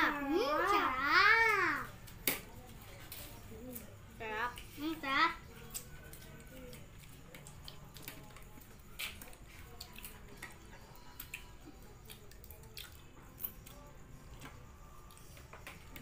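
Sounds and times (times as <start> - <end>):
children chewing: 0.0 - 16.0.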